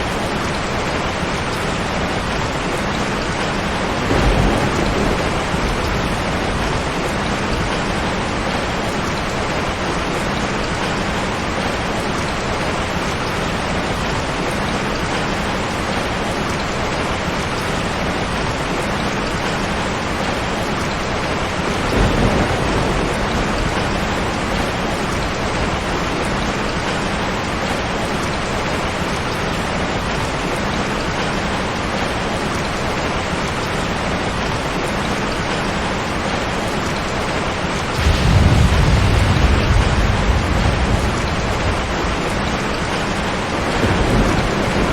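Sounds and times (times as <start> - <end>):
heavy rain on a tin roof: 0.0 - 44.9.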